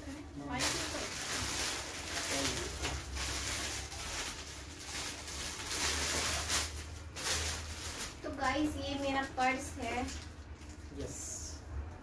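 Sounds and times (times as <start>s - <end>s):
plastic wrapping crinkling: 0.0s - 11.2s.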